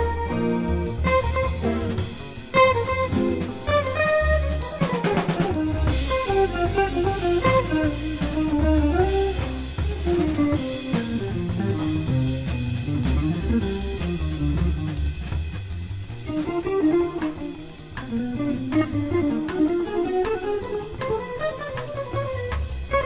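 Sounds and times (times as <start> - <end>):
drum kit: 0.0 - 23.0
electric guitar: 0.0 - 23.0
jazz melodic line: 0.0 - 23.0
walking double bass: 0.0 - 23.0.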